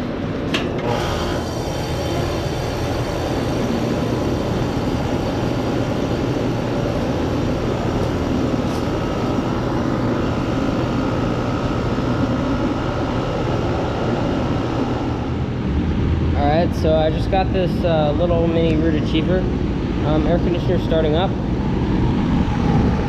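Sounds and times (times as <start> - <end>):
compressor hum: 0.0 - 23.0
condenser fan rushing: 0.0 - 23.0.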